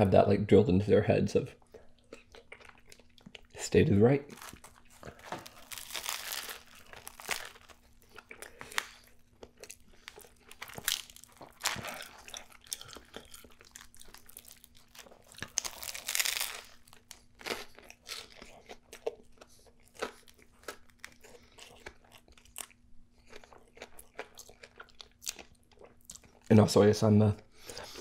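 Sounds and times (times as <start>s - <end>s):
crunchy chewing of sandwich: 1.7s - 3.5s, 4.3s - 26.5s.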